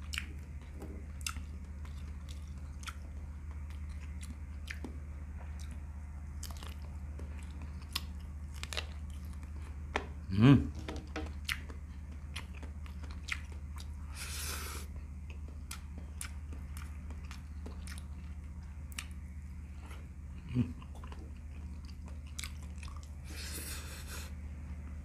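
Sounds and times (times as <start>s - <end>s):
person chewing and biting: 0.0s - 5.0s, 5.6s - 9.8s, 11.3s - 24.3s
low electrical hum: 0.0s - 25.0s
low hum from the throat: 0.0s - 25.0s.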